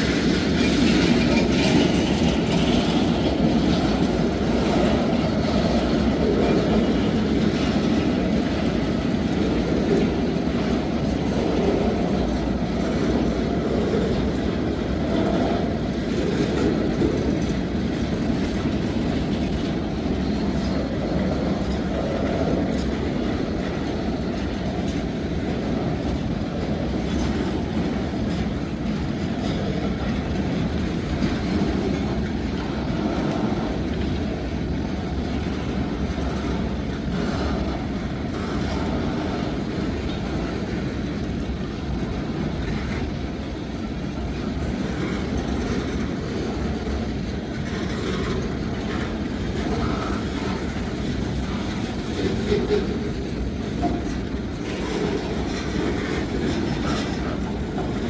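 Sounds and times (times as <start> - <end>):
faint clicks over rail joints: 0.0 - 58.0
steel wheels rolling on rail: 0.0 - 58.0.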